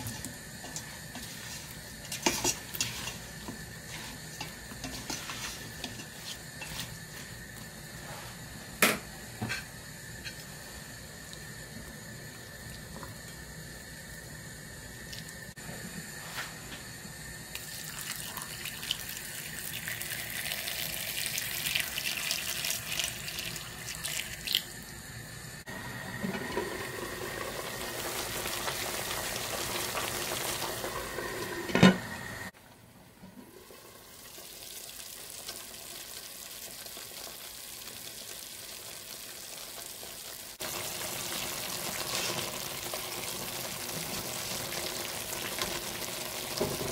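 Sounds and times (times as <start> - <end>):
food sizzling in a pot: 0.0 - 32.6, 33.4 - 46.9.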